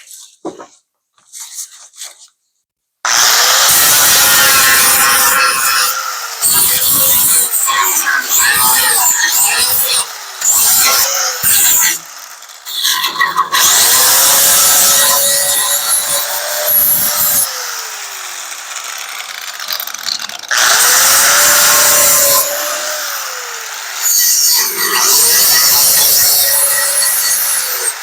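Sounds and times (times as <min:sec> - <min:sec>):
electric grinder grinding metal: 0:03.1 - 0:28.0.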